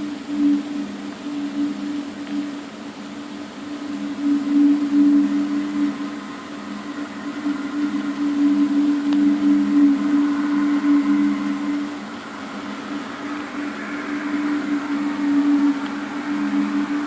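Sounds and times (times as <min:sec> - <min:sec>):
two-tone droning hum: 0:00.0 - 0:17.0.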